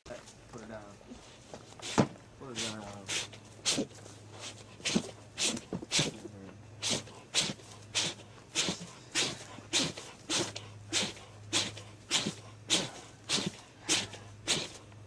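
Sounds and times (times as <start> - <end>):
bear sneezing: 1.8 - 14.9.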